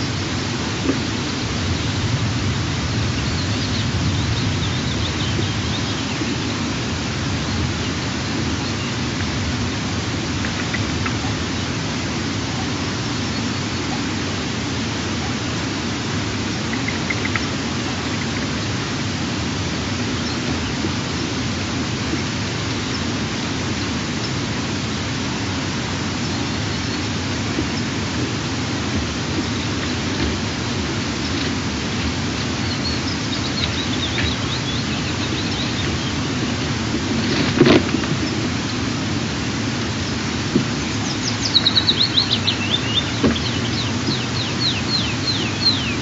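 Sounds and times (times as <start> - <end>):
wind rushing on microphone: 0.0 - 46.0.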